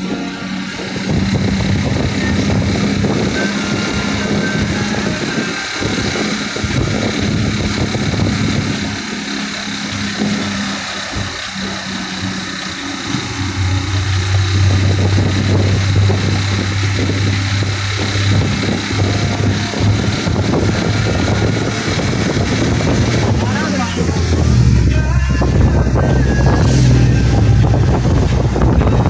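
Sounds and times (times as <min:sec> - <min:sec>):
deep steady engine hum: 0:00.0 - 0:29.0
vehicle engine and road noise: 0:00.0 - 0:29.0.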